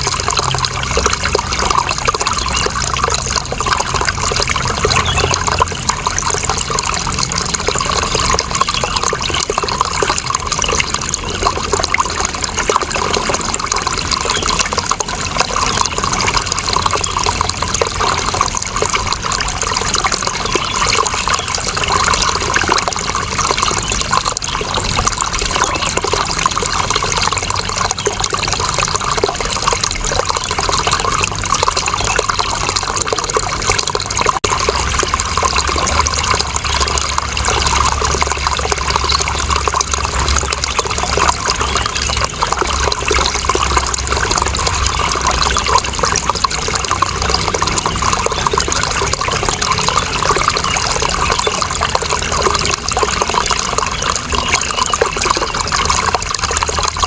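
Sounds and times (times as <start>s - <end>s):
water running and splashing: 0.0s - 57.0s.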